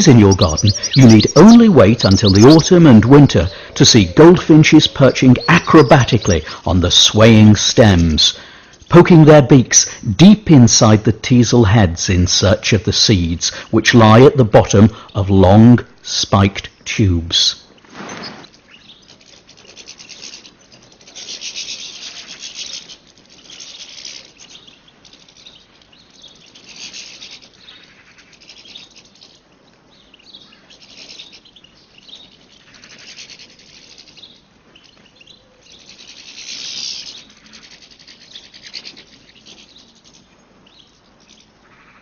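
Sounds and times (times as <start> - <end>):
goldfinch trilling song: 0.0 - 42.0.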